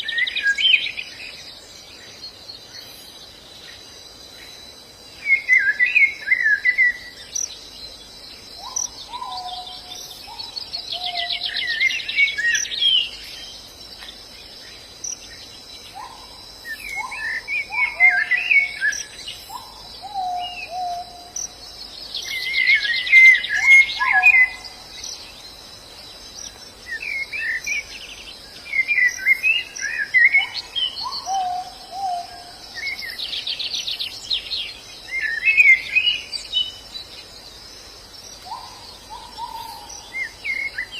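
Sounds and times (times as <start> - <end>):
birds twittering high chirps: 0.0 - 40.9
high insect drone: 0.0 - 40.9.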